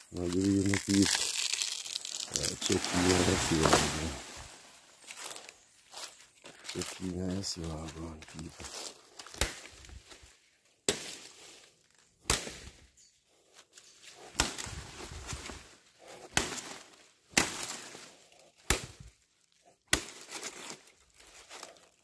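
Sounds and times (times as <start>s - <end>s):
fibrous wood rustling: 0.0s - 22.0s.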